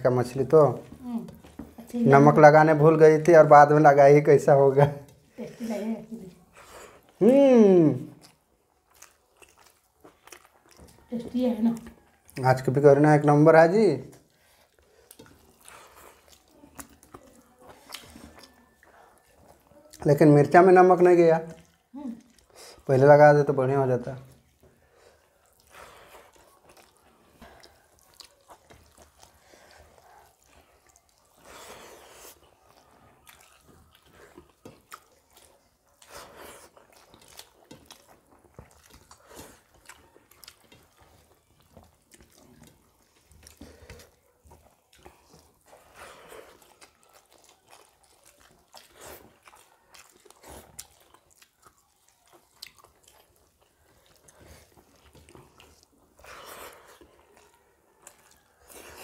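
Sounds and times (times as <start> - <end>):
chewing with wet squishing: 0.0 - 59.0.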